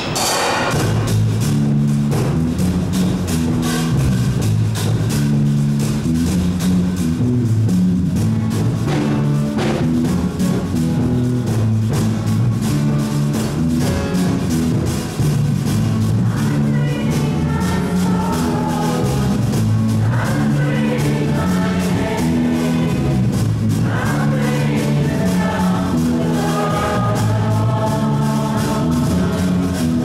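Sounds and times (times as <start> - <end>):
drum kit beat: 0.0 - 30.0
held low notes: 0.7 - 30.0.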